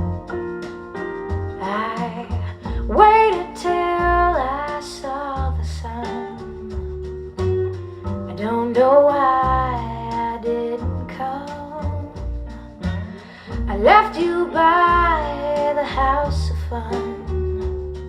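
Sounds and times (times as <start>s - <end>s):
jazz-pop ballad over loudspeakers: 0.0s - 18.0s.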